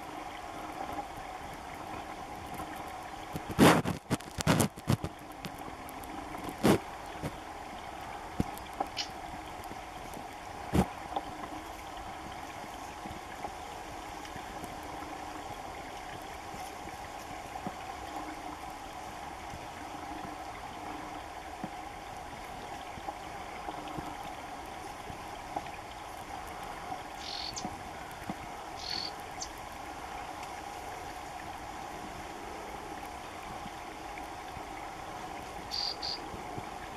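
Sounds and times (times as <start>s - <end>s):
water trickling and lapping: 0.0s - 36.9s.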